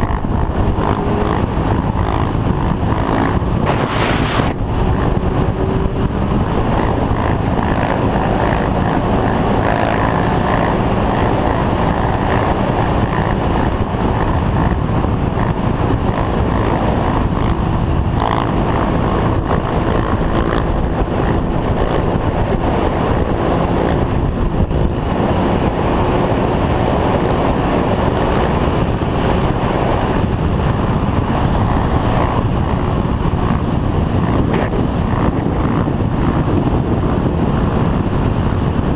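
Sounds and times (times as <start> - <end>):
motorcycle engine drone: 0.0 - 38.9
wind rushing on microphone: 0.0 - 38.9.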